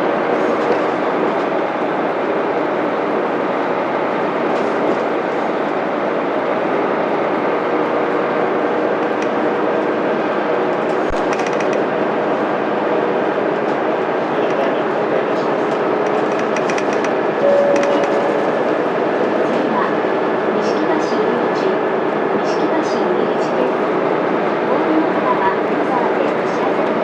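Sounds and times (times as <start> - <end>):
bus diesel engine running: 0.0 - 23.2.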